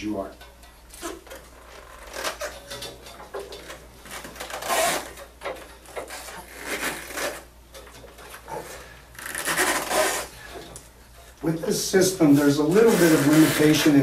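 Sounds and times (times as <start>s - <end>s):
rubbing and rustling of straps: 0.6s - 14.0s.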